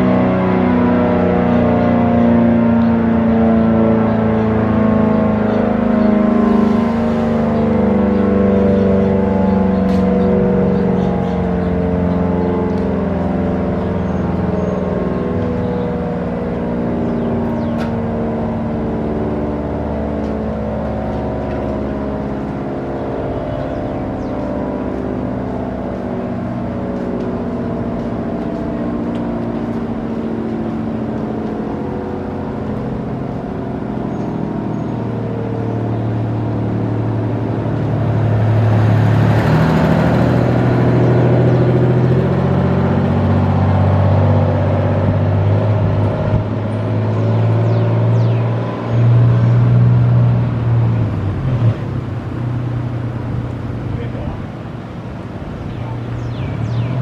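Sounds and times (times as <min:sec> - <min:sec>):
warning siren steady tone: 0:00.0 - 0:57.0.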